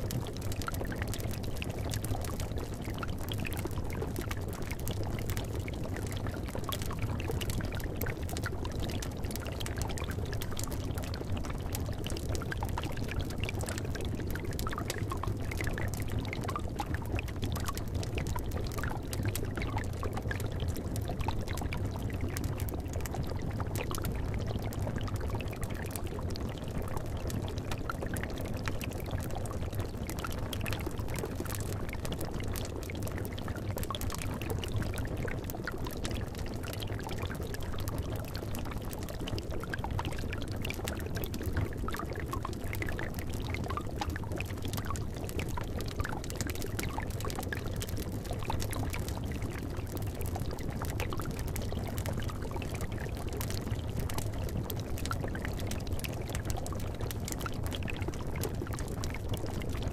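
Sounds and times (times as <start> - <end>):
liquid bubbling in a cauldron: 0.0 - 59.9
small pops and crackles: 0.0 - 59.9.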